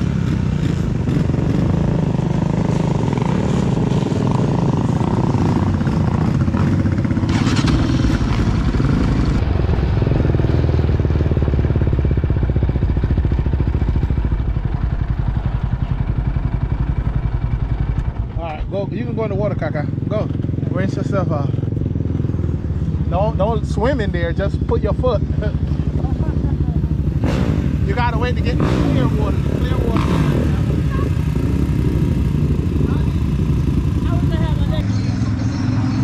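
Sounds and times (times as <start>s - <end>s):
atv engine throbbing: 0.0s - 36.0s.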